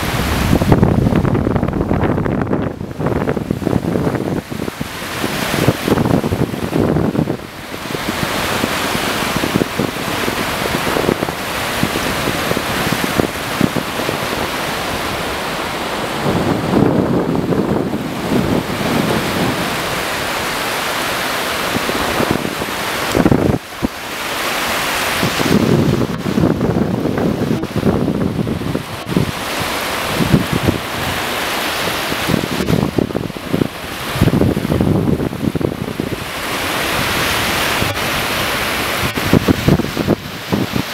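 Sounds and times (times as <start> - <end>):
small waves breaking on beach: 0.0 - 40.9
wind buffeting microphone: 0.0 - 40.9.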